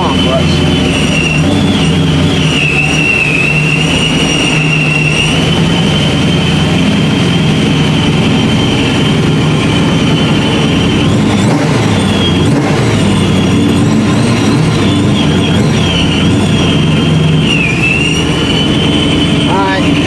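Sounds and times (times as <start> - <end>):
car engine running: 0.0 - 20.0
supercharger high whine: 0.0 - 20.0.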